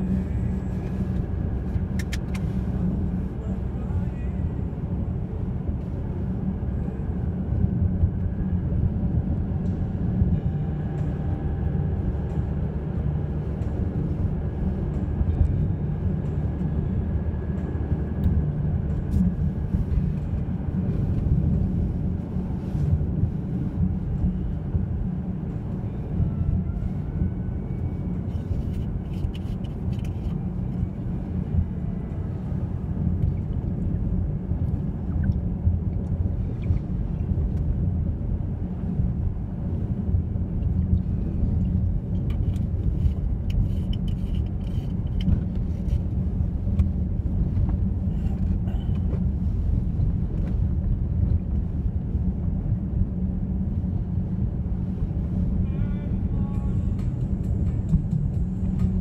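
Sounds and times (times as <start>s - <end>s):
vehicle rumble in motion: 0.0s - 59.0s.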